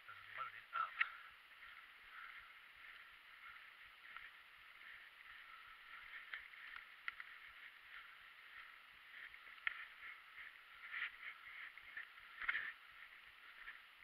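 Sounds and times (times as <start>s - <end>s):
bike tyres rolling over leaves: 0.0s - 14.0s
bike clicks and rattles: 1.0s - 13.9s.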